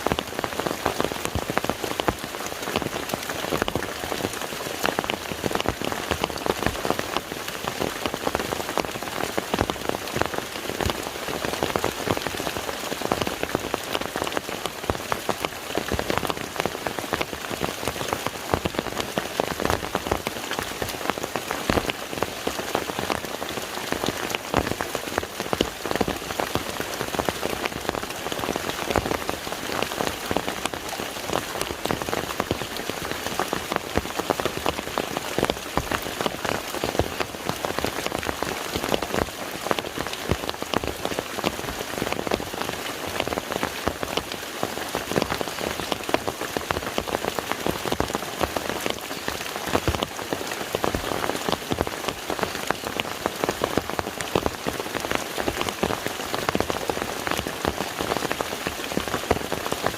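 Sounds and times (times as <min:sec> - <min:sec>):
rain falling on lake water: 0:00.0 - 0:59.9.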